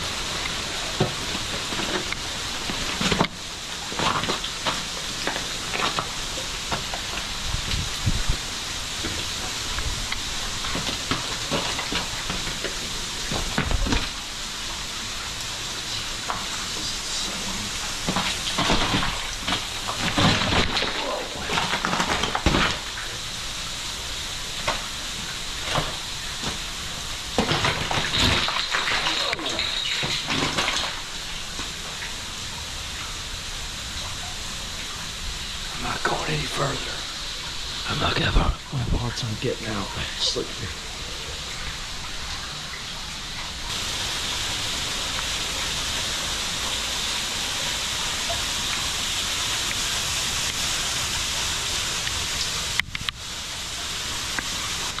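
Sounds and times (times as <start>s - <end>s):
meltwater falling and spattering: 0.0s - 55.0s
water drips and ticks: 0.0s - 55.0s.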